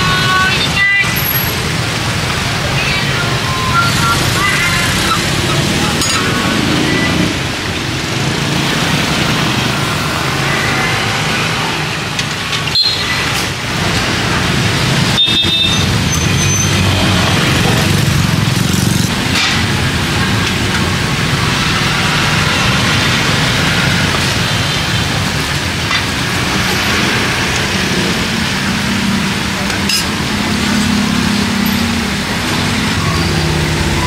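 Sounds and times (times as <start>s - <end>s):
passing vehicle engines: 0.0s - 34.0s.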